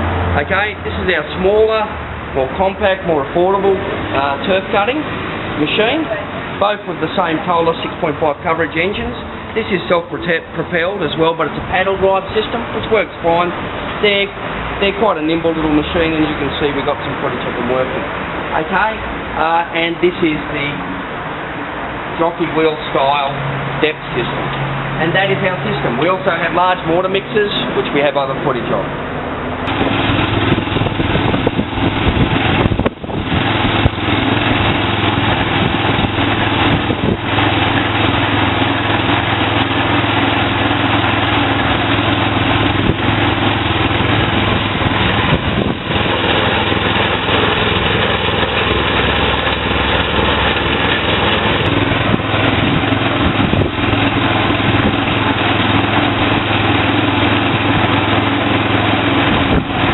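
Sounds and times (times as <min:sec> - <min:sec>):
petrol engine running: 0:00.0 - 0:59.9.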